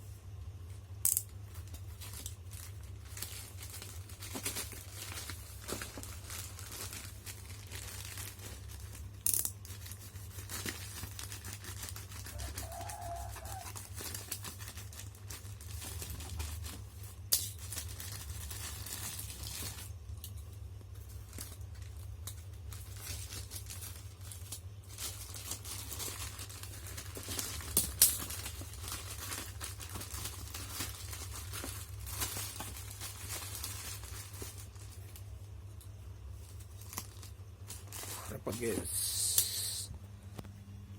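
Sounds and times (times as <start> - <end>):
packaging tearing and crinkling: 1.2 - 20.0, 21.2 - 35.2, 36.5 - 39.7.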